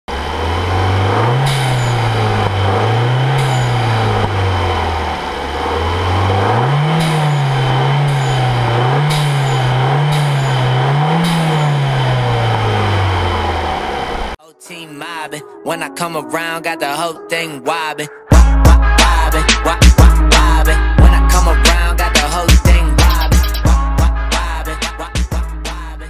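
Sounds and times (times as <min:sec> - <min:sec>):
car engine revving: 0:00.1 - 0:14.4, 0:18.3 - 0:26.0.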